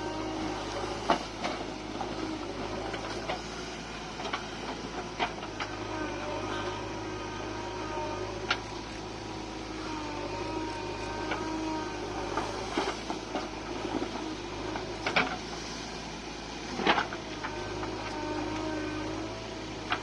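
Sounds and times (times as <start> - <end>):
heavy diesel machinery running: 0.0 - 20.0.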